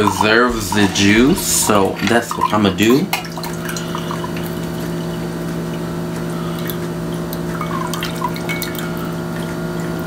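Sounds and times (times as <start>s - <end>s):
juice trickling into a mug: 0.0s - 10.0s
steady low hum: 0.0s - 10.0s.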